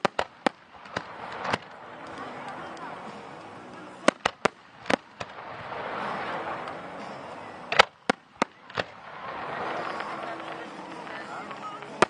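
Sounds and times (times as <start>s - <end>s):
fireworks bursting: 0.0s - 12.0s
fireworks hissing: 0.0s - 12.0s.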